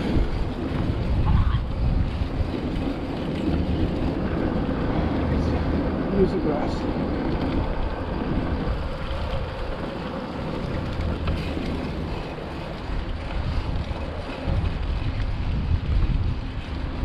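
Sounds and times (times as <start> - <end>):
bike tyres rolling on gravel: 0.0 - 17.0
wind buffeting microphone: 0.0 - 17.0.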